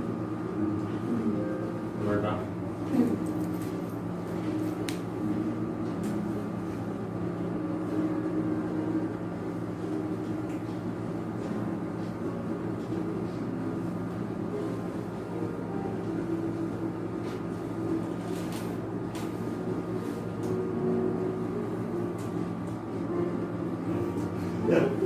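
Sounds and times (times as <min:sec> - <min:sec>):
low mechanical machine hum: 0:00.0 - 0:25.0.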